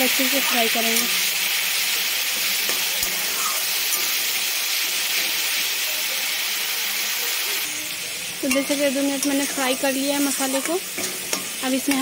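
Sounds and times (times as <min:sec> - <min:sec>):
spatula stirring in a wok: 0:00.0 - 0:06.6, 0:07.3 - 0:12.0
paste sizzling in hot oil: 0:00.0 - 0:12.0.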